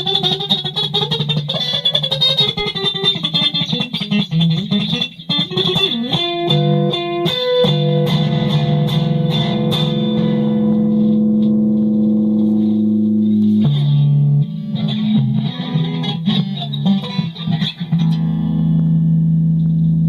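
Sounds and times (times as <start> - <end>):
solo guitar improvisation: 0.0 - 20.0.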